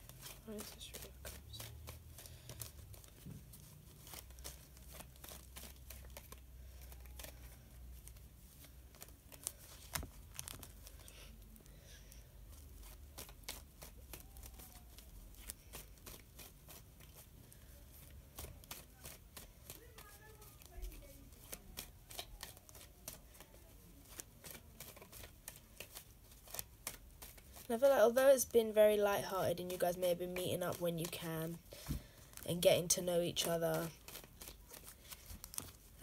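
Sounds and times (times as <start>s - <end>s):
cards being shuffled: 0.0s - 36.0s.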